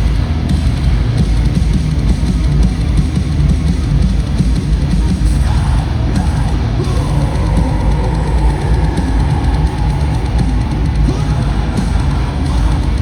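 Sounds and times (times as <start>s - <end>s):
bass drum: 0.0s - 13.0s
metal band playing live: 0.0s - 13.0s.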